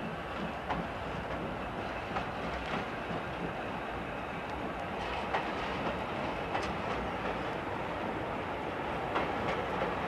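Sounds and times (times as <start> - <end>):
steam locomotive rushing steam: 0.0 - 10.0.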